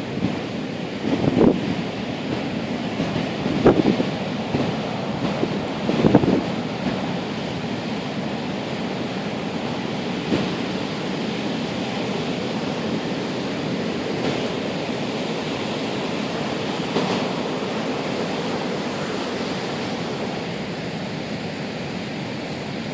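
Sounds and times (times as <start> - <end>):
sea surf breaking: 0.0 - 22.9
wind buffeting microphone: 0.0 - 22.9.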